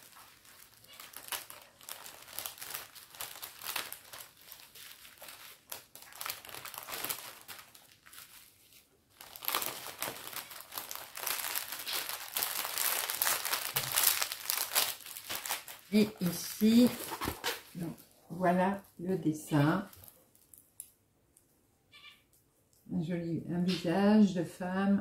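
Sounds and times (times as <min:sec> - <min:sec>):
plastic packaging crinkling: 0:00.0 - 0:19.0, 0:19.6 - 0:21.0.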